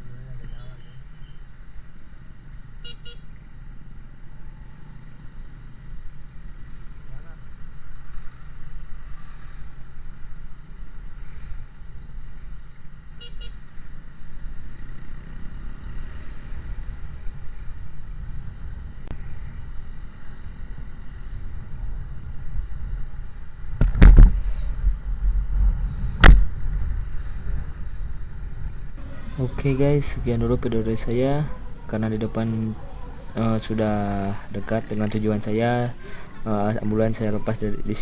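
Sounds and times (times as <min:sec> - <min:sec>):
road vehicle rumble: 0:00.0 - 0:38.0.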